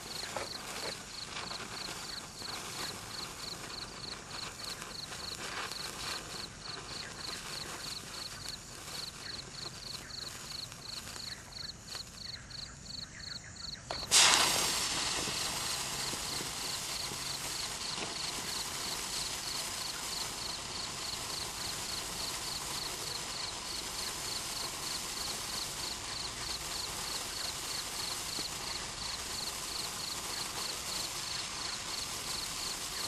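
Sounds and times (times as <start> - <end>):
sparkler crackling: 0.0 - 33.0
sparkler hissing burn: 0.0 - 33.0.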